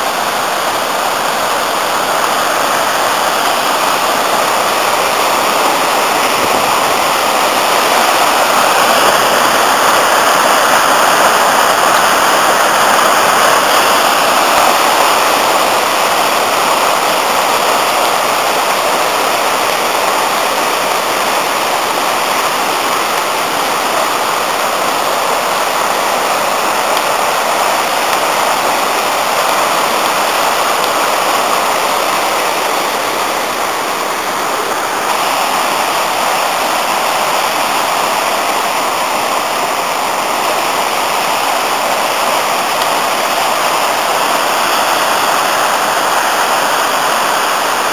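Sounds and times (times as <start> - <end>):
water rushing over rocky rapids: 0.0 - 47.9.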